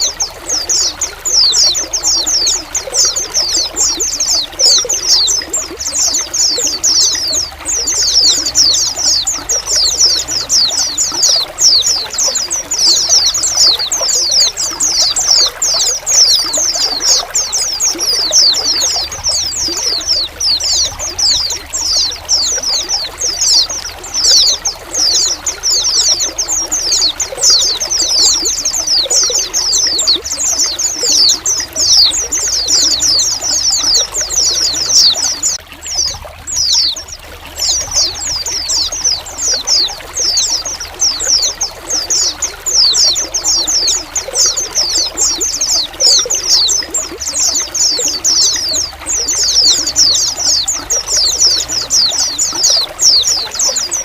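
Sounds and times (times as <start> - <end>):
trickle of running water: 0.0 - 54.0
white-eyes chirping: 0.0 - 54.0.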